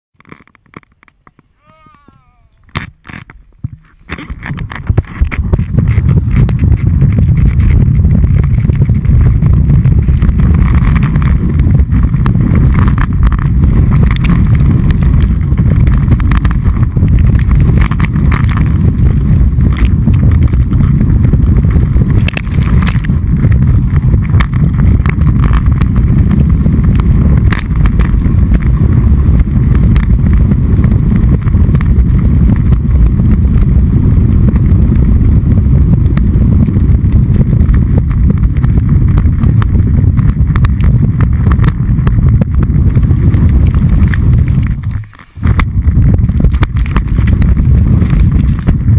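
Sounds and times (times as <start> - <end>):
ski edge scrapes: 0.2 - 33.7, 36.2 - 48.9
wind buffeting microphone: 1.5 - 48.9.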